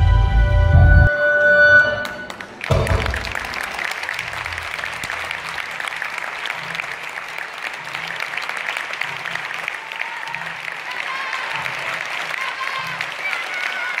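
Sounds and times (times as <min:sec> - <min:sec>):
audience applauding: 0:02.0 - 0:14.0.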